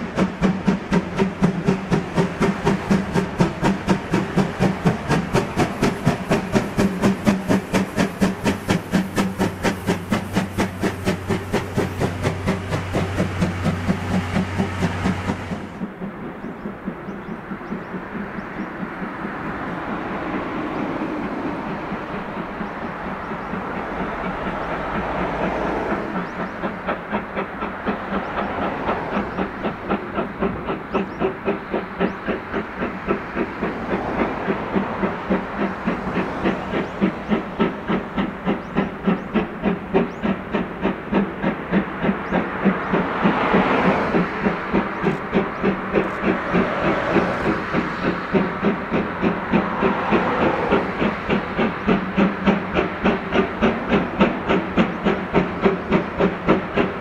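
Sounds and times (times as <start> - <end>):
hissing steam: 0.0 - 57.0
steam locomotive exhaust beating: 0.0 - 57.0.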